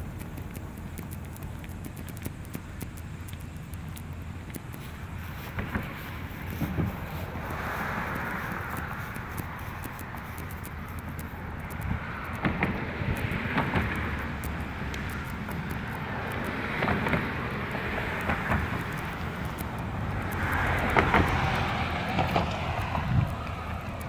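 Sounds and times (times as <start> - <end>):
cars passing by: 0.0 - 24.0.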